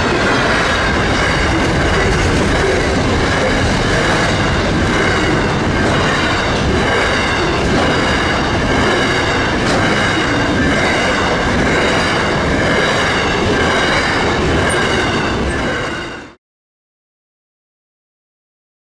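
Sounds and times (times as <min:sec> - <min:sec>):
train wheels rumbling on rails: 0:00.0 - 0:16.4.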